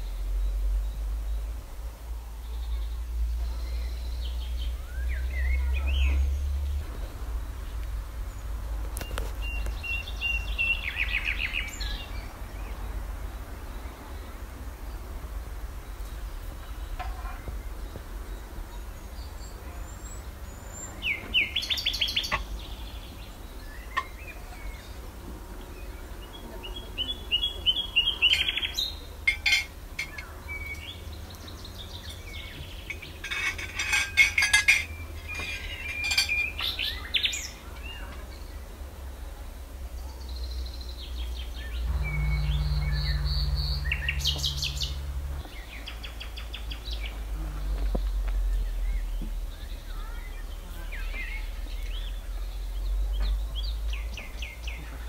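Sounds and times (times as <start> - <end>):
low steady hum: 0.0 - 55.0
songbirds chirping and singing: 0.0 - 55.0.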